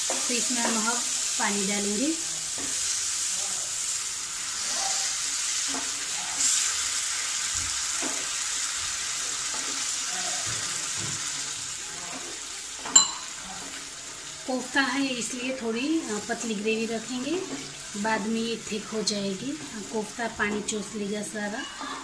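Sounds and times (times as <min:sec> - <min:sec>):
paste sizzling in frying pan: 0:00.0 - 0:22.0.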